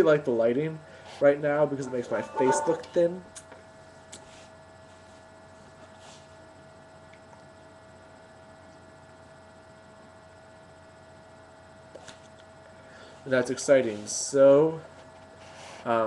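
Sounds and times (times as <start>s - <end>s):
electrical hum with whine: 0.0s - 16.0s.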